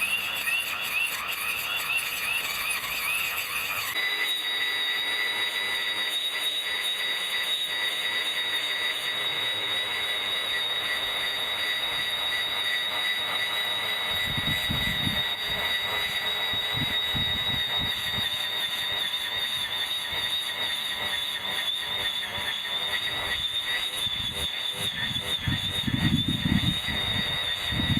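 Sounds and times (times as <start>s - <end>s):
electric grass trimmer whining: 0.0s - 27.9s.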